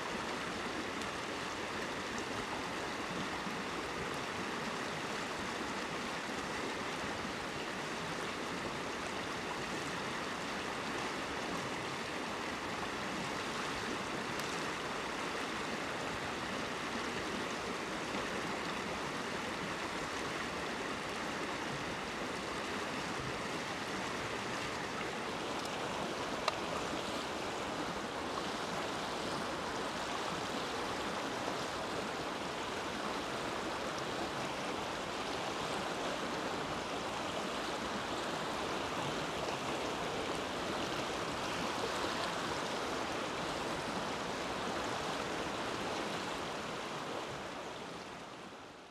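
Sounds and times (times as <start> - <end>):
stream water rushing: 0.0 - 48.9.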